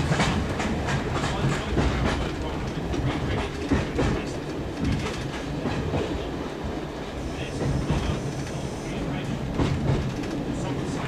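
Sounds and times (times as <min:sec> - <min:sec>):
low train rumble: 0:00.0 - 0:11.0
train wheels clicking over joints: 0:00.0 - 0:11.0.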